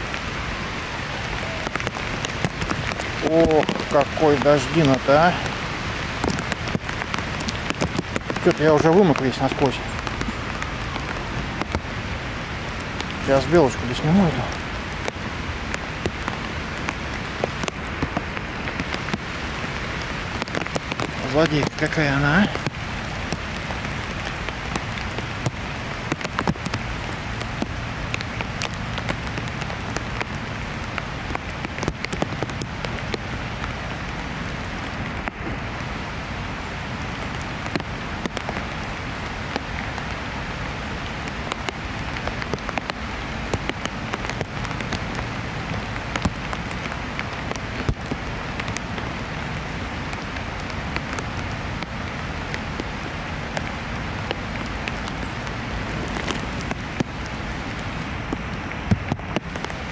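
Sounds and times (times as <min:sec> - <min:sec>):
heavy rain falling: 0:00.0 - 0:59.9
raindrops tapping: 0:00.0 - 0:59.9.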